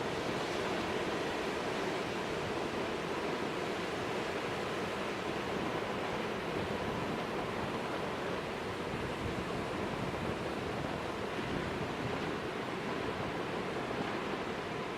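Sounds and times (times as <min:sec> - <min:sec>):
wind: 0:00.0 - 0:14.9.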